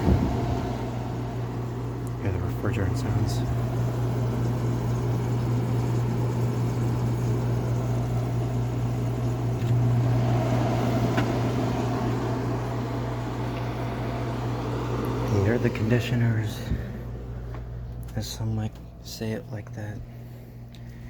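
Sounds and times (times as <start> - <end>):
refrigerant hissing and gurgling: 0.0 - 17.4
air conditioner compressor hum: 0.0 - 21.0.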